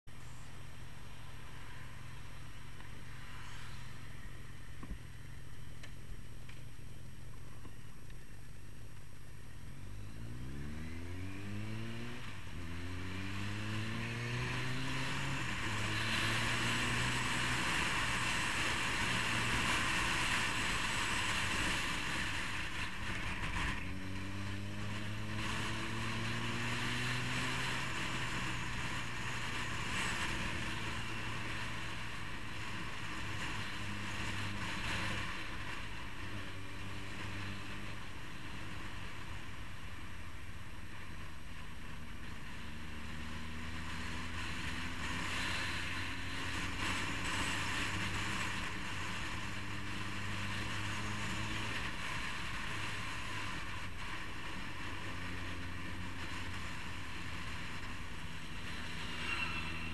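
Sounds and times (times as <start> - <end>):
motorcycle engine accelerating: 9.2 - 59.9.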